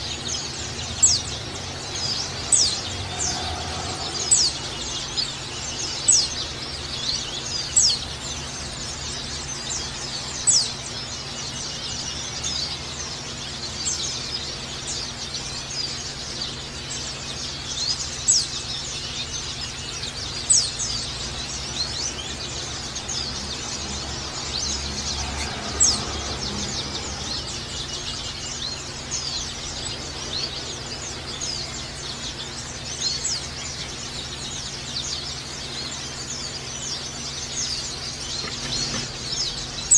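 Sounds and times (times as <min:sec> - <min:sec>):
birds chirping and twittering: 0:00.0 - 0:39.9
loud sharp bird chirp: 0:00.0 - 0:39.9.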